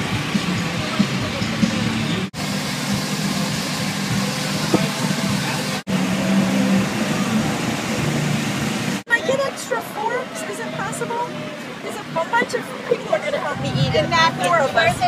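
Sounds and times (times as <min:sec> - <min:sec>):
generator engine humming: 0:00.0 - 0:15.0.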